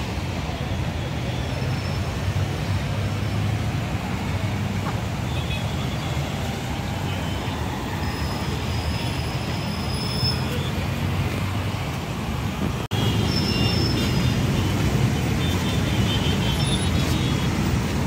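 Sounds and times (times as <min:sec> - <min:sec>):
city road traffic hum: 0:00.0 - 0:18.0.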